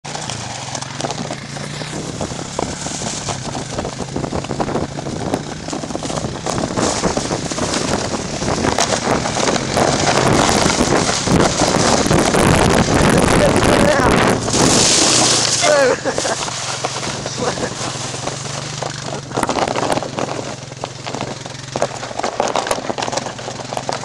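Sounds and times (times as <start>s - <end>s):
atv engine running: 0.0s - 24.0s
sled scraping over snow: 0.0s - 24.0s
wind on microphone: 1.0s - 21.5s.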